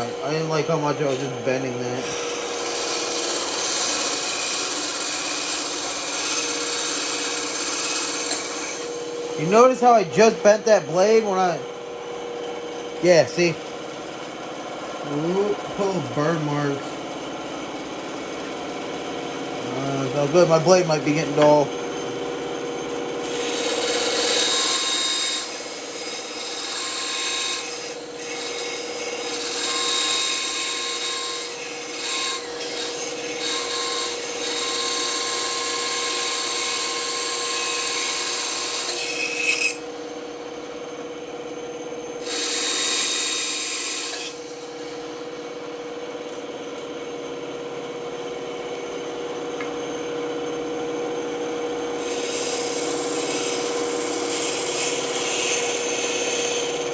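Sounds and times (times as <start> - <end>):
band saw cutting wood: 0.0 - 56.9
saw motor humming: 0.0 - 56.9.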